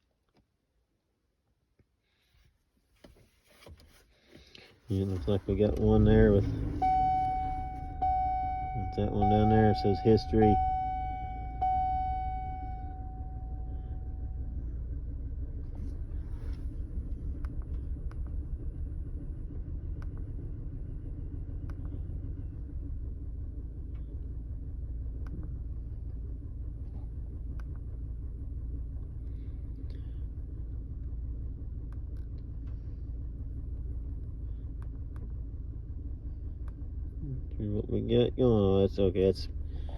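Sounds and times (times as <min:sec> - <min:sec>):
engine idling rough: 0:04.2 - 0:39.9.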